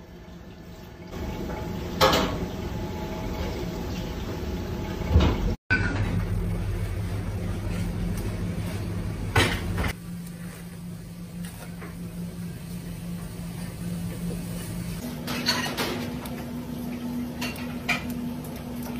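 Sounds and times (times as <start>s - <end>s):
low hum of a kitchen: 0.0s - 18.9s.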